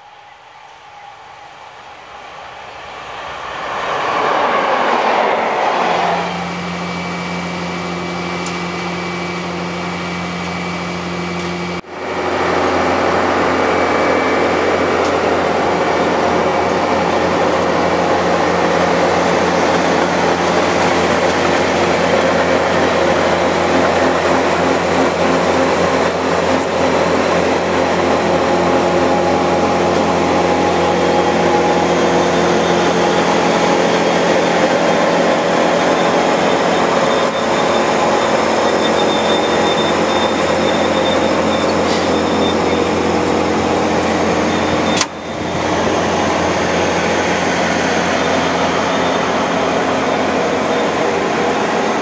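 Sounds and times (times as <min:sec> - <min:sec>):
metal milling whirr on rail: 0:00.0 - 0:52.0
train machinery droning: 0:00.0 - 0:52.0.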